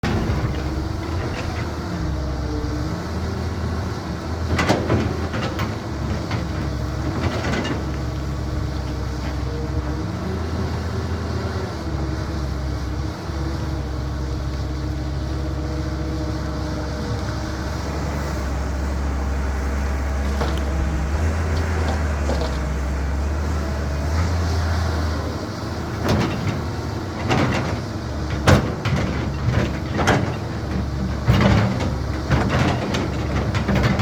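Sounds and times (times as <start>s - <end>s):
excavator diesel engine drone: 0.0s - 34.0s.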